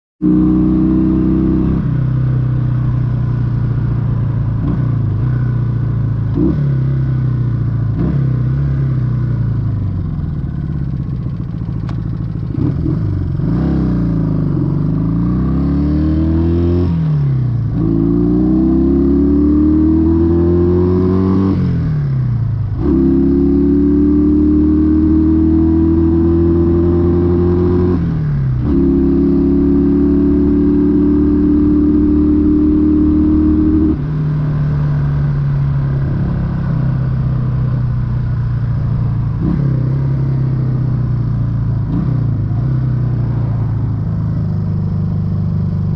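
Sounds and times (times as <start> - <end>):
motorcycle shifting through gears: 0.2 - 45.9.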